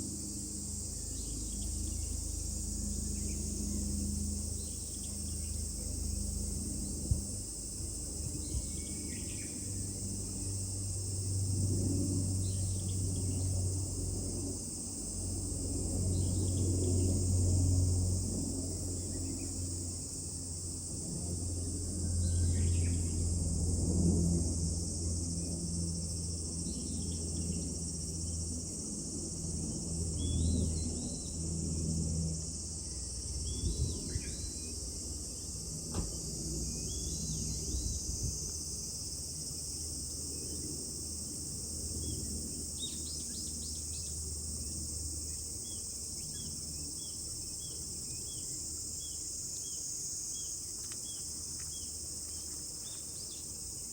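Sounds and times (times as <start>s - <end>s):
cicadas droning: 0.0s - 53.9s.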